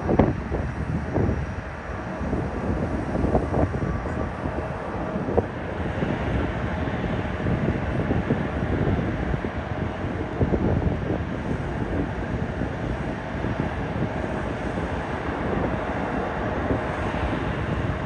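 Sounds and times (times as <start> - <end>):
jet aircraft rumble: 0.0 - 18.0
wind buffeting microphone: 0.0 - 18.0.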